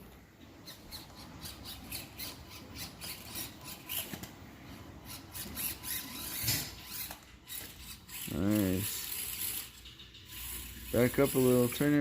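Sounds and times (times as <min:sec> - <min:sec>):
toy truck clicking and rattling: 0:00.6 - 0:12.0.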